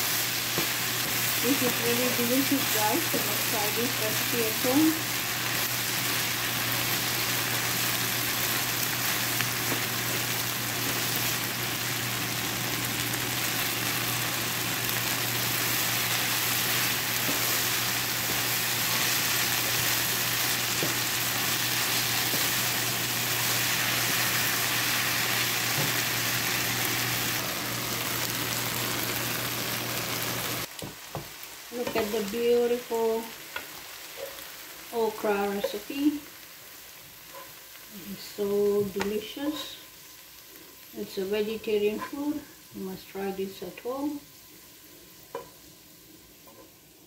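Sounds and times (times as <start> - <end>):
vegetables sizzling in a frying pan: 0.0 - 47.0.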